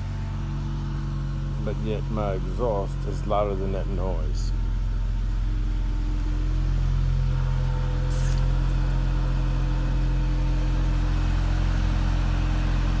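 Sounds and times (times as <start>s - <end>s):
car exhaust drone idling: 0.0s - 13.0s.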